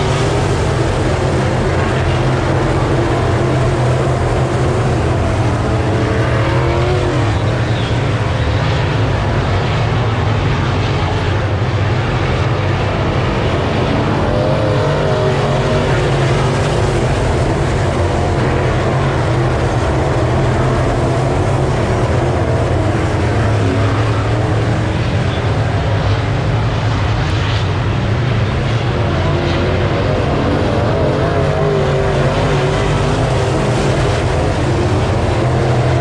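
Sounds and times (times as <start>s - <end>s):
race car engines droning: 0.0s - 36.0s.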